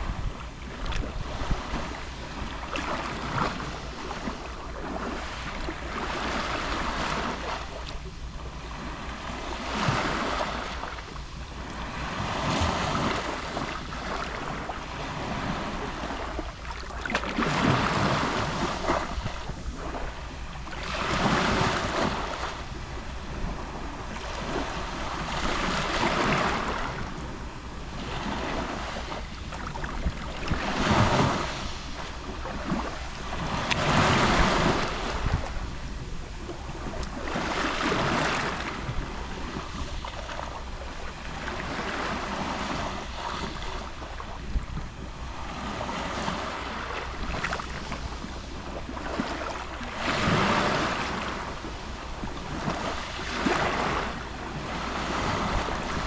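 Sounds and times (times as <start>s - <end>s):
sea waves lapping on shore: 0.0s - 56.0s
wind rumble on microphone: 0.0s - 56.0s.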